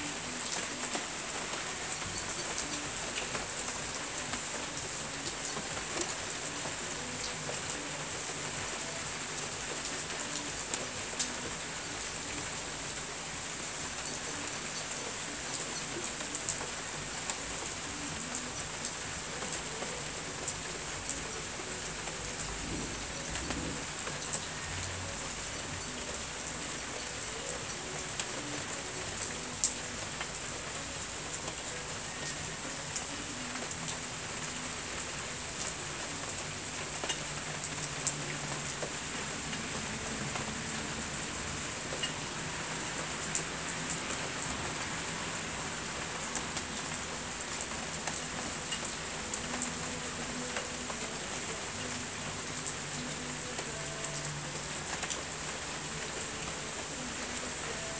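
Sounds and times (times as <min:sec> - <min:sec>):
raindrops ticking close by: 0:00.0 - 0:57.9
steady rain falling: 0:00.0 - 0:57.9.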